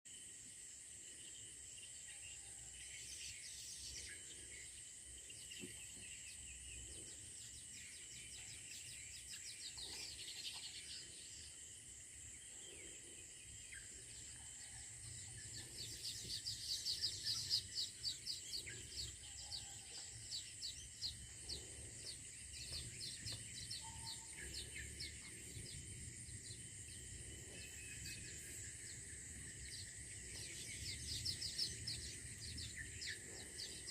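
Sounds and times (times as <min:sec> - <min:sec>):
insects buzzing: 0:00.1 - 0:33.9
birds chirping: 0:01.2 - 0:33.9.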